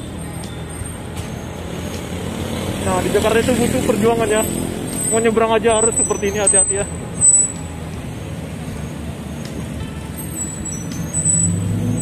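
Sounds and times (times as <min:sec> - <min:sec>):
car engine approaching: 0:00.0 - 0:12.0
passing cars: 0:00.0 - 0:12.0.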